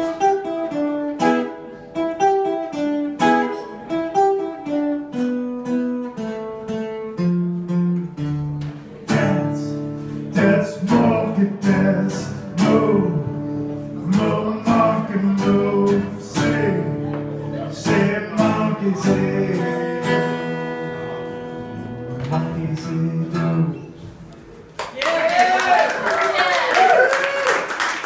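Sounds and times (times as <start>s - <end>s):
guitar picked notes riff: 0.0s - 24.2s
guitar strummed chords: 0.0s - 24.3s.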